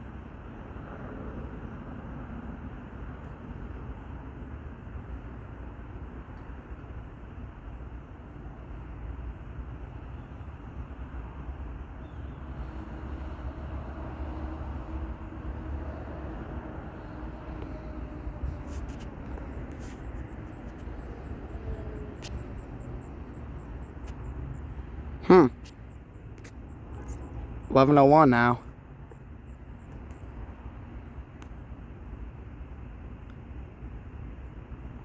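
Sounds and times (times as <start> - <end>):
distant traffic rumble: 0.0 - 35.0
faint hum: 0.0 - 35.0.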